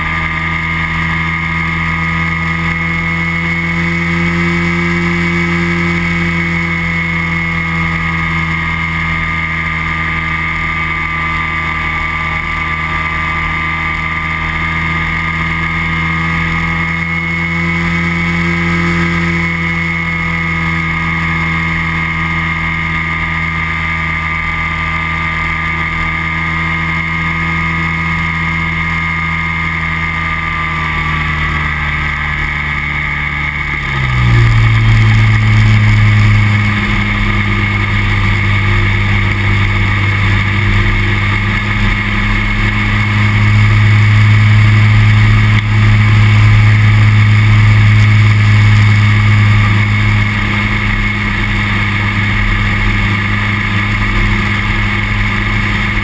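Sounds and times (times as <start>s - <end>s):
propeller engine droning: 0.0s - 56.0s.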